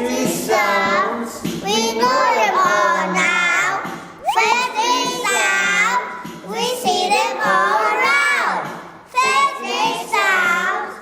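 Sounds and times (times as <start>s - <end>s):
young children singing: 0.0s - 11.0s.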